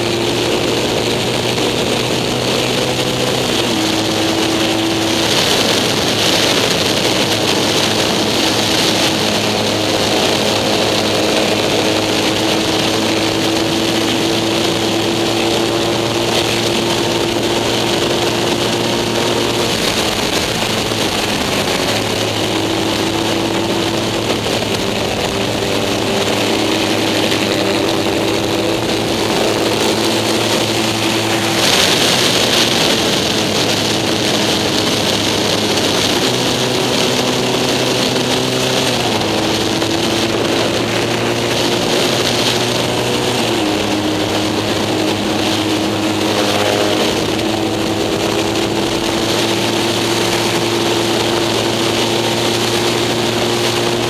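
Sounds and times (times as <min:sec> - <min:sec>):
racing engine running hard: 0:00.0 - 0:54.0
wind noise: 0:00.0 - 0:54.0.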